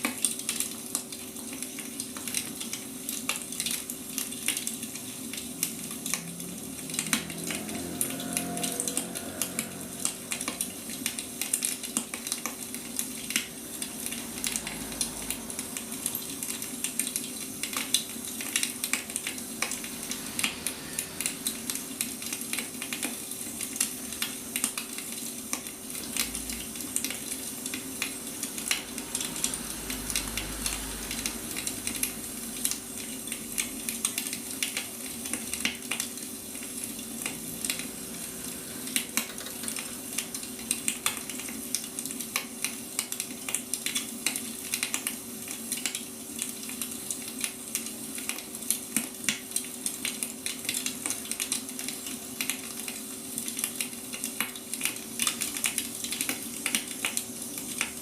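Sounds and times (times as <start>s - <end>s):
faint steady hum: 0.0s - 49.8s
wood fire crackling and popping: 0.0s - 58.0s.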